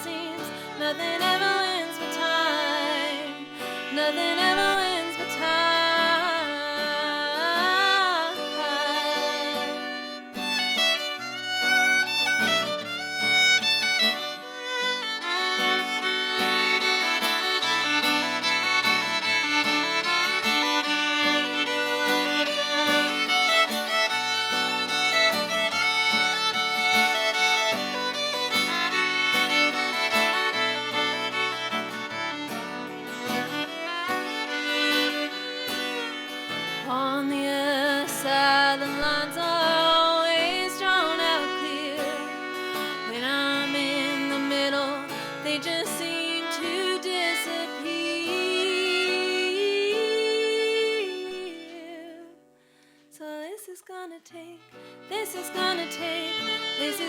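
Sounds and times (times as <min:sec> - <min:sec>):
strummed acoustic guitar: 0:00.0 - 0:51.4
fiddle solo: 0:00.0 - 0:52.4, 0:54.3 - 0:57.0.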